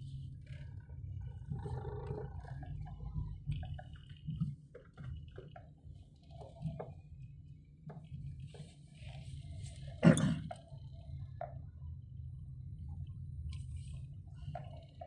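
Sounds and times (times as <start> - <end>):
car engine and tyres rumbling: 0.0 - 15.0
faint clicks and creaks: 0.0 - 15.0.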